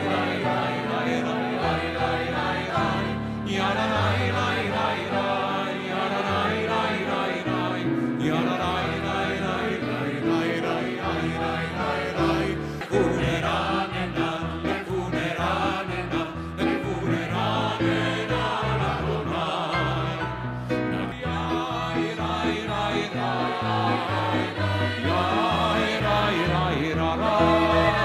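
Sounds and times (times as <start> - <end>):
mixed choir singing in harmony: 0.0 - 28.0.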